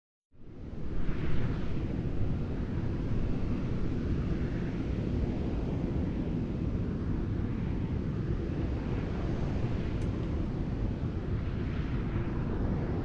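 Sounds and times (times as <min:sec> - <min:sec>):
wind buffeting microphone: 0:00.5 - 0:13.0.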